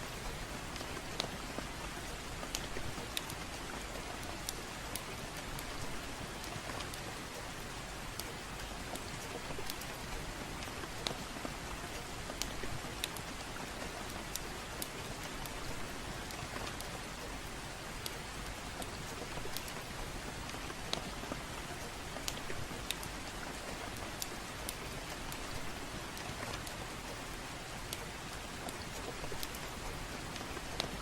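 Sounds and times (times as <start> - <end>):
fireplace crackling: 0.0 - 31.0
gentle rain: 0.0 - 31.0.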